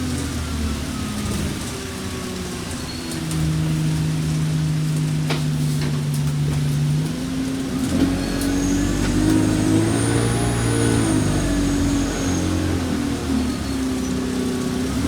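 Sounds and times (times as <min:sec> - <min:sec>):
bus diesel engine pulling: 0:00.0 - 0:15.0.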